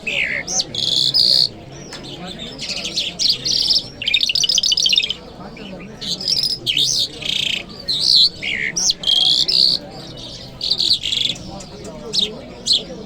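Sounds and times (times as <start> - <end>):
lark singing: 0.0 - 13.0.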